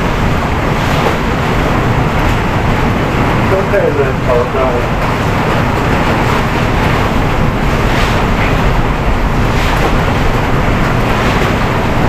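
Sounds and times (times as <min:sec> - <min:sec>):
broom swishing water: 0:00.0 - 0:12.0
heavy rain pouring: 0:00.0 - 0:12.0.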